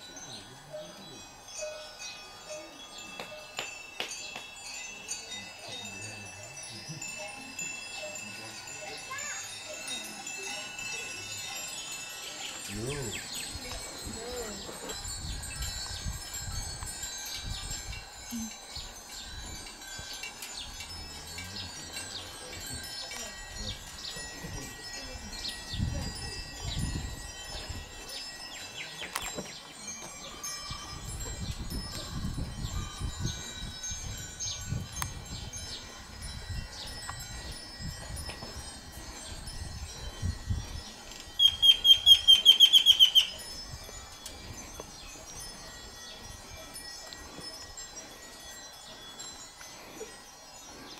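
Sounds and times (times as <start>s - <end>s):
small metal bells tinkling: 0.0s - 50.9s.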